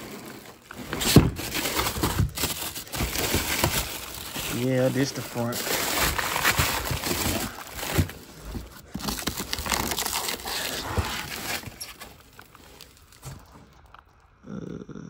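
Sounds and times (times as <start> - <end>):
plastic packaging crinkling: 0.0 - 14.3.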